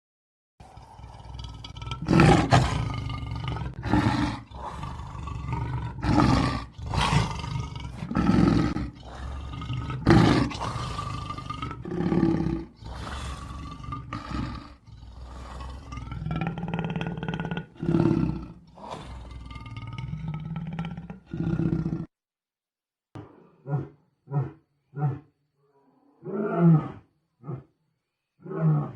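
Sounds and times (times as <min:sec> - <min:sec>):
jaguar roaring: 0:00.6 - 0:22.1, 0:23.4 - 0:27.7.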